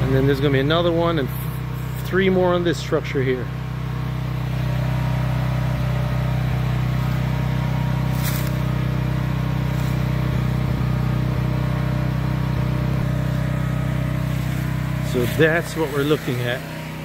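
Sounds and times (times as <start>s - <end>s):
generator engine humming: 0.0s - 17.0s.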